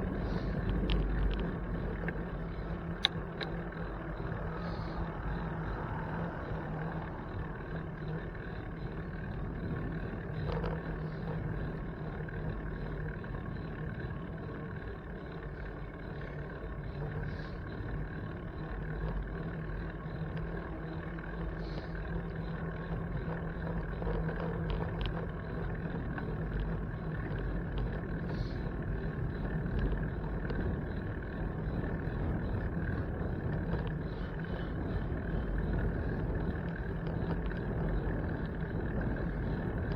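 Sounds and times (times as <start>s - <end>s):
faint clicks: 0.0s - 6.3s, 9.2s - 13.2s, 14.0s - 39.9s
bicycle riding rumble: 0.0s - 39.9s
road traffic: 0.0s - 39.9s.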